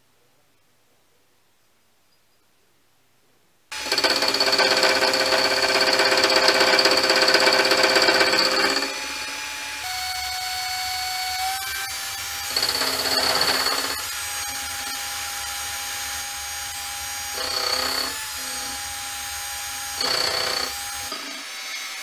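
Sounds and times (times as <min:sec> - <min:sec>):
cordless drill running: 0:03.7 - 0:21.7
lathe cutting metal: 0:03.7 - 0:22.0
lathe whine: 0:03.8 - 0:22.0.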